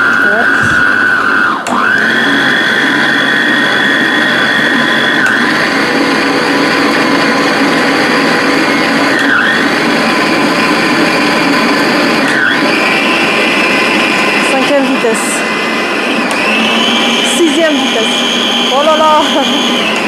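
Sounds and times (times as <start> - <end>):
stand mixer motor whine: 0.0 - 20.0.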